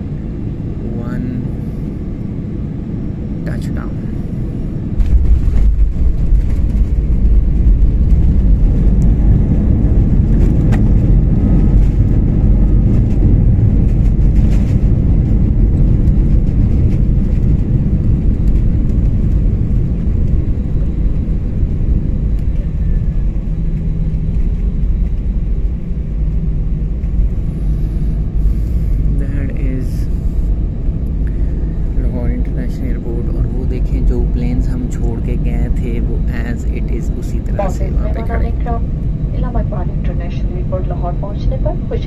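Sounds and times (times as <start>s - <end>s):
airliner cabin roar on landing: 0.0s - 42.0s.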